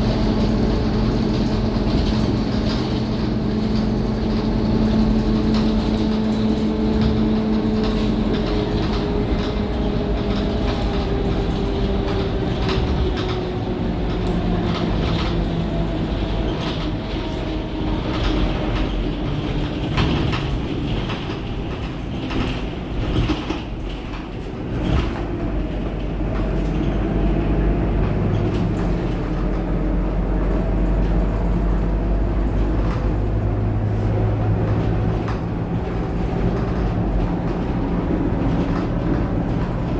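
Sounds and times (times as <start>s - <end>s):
bus diesel engine running: 0.0s - 39.9s
rattles and clicks: 0.1s - 27.2s, 27.8s - 39.9s.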